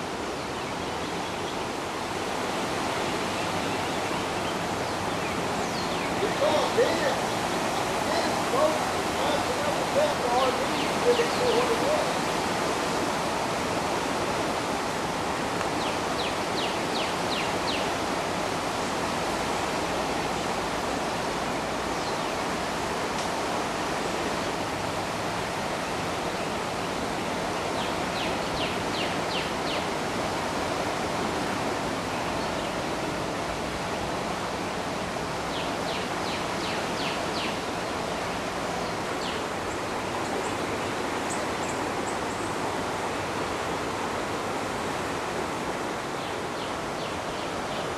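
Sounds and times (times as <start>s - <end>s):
fast river current rushing: 0.0s - 47.9s.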